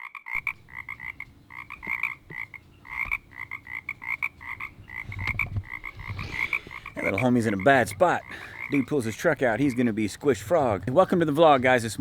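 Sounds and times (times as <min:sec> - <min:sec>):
frog calling: 0:00.2 - 0:10.6.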